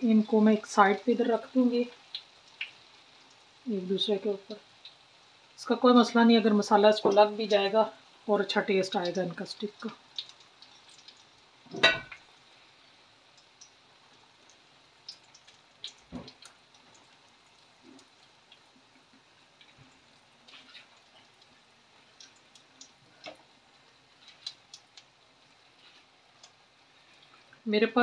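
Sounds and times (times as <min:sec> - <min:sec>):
gravy simmering with pops: 0:00.0 - 0:27.7.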